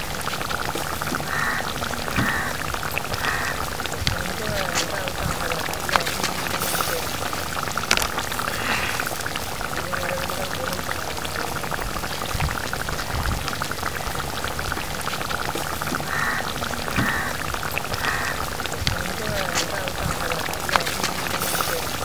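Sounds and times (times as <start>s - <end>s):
stew boiling with popping bubbles: 0.0s - 22.0s.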